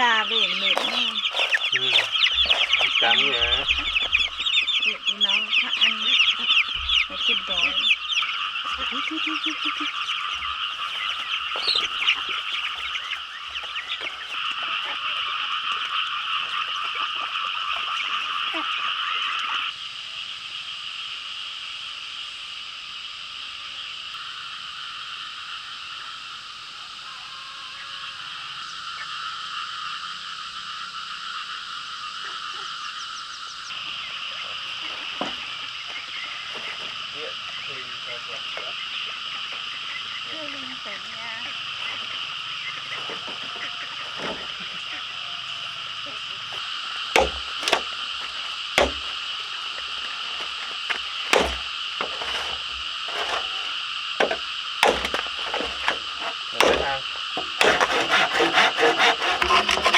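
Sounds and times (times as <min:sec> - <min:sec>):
chorus of frogs calling: 0:00.0 - 0:59.9.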